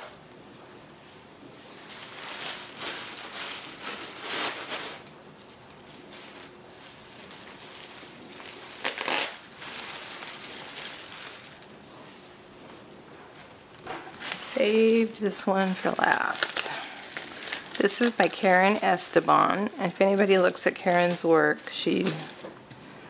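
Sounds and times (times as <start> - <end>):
packaging crinkling and rustling: 1.0 - 22.8.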